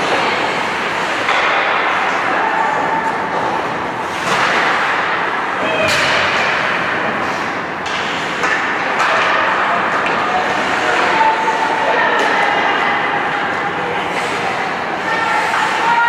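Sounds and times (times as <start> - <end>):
skates scraping ice: 0.0 - 5.2, 6.4 - 12.8, 13.5 - 16.0
hockey sticks clacking on puck: 0.0 - 16.0.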